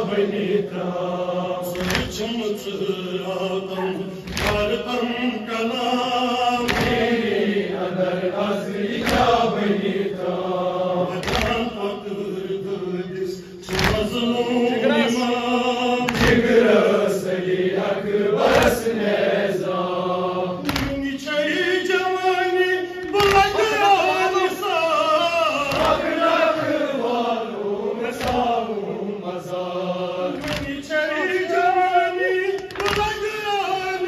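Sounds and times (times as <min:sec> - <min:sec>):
men chanting in chorus: 0:00.0 - 0:34.0.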